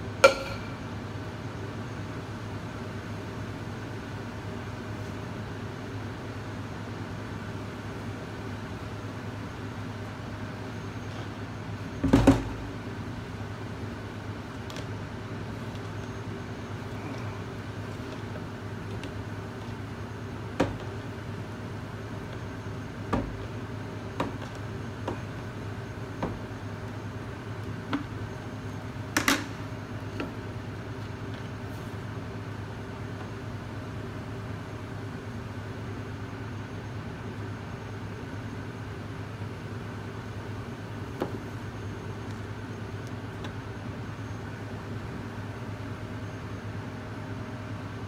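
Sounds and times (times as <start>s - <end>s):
exhaust fans humming: 0.0s - 48.0s.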